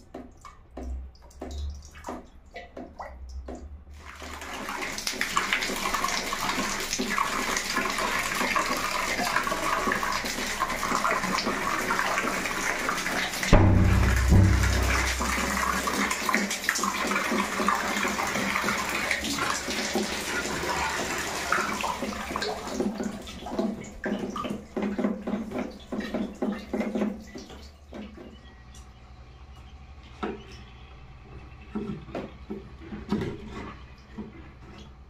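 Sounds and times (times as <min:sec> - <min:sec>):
water pouring and splashing: 0:00.0 - 0:28.4, 0:31.7 - 0:35.0
water dripping: 0:00.0 - 0:30.7.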